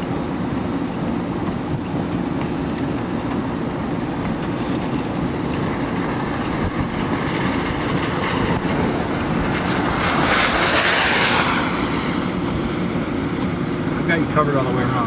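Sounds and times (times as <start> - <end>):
wind rushing past: 0.0 - 14.0
car rolling rumble: 0.0 - 15.0.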